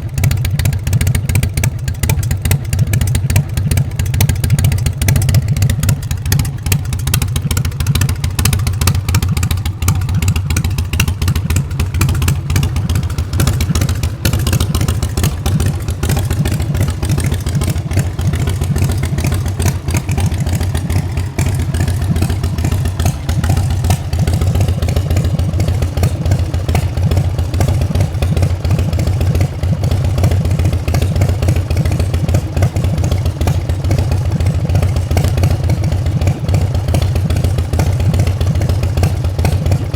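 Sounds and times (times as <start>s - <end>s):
motorcycle exhaust pulsing: 0.0s - 39.9s.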